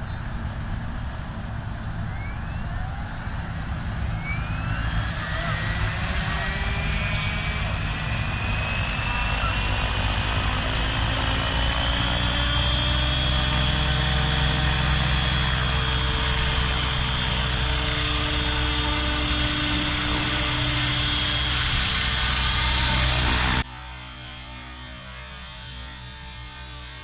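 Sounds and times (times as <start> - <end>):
helicopter rotor drone: 0.0 - 27.0
high motor whine: 0.0 - 27.0.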